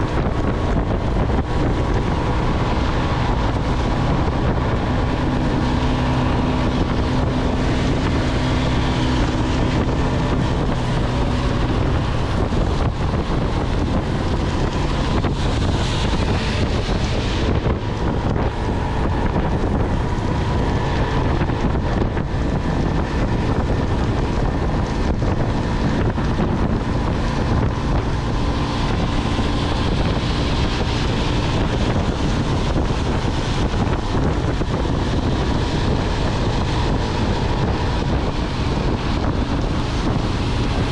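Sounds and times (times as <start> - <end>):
motorcycle engine humming: 0.0 - 40.9
wind rushing over microphone: 0.0 - 40.9.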